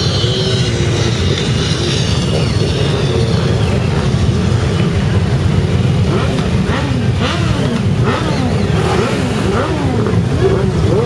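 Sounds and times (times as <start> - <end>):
motorcycle engines revving: 0.0 - 11.0
motorcycle engines rumbling: 0.0 - 11.0.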